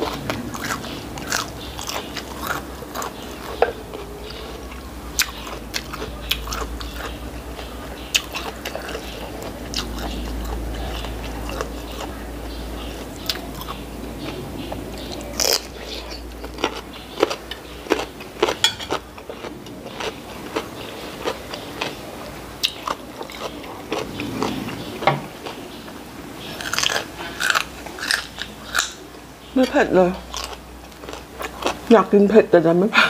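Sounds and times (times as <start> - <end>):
crunching and chewing vegetables: 0.0 - 32.4.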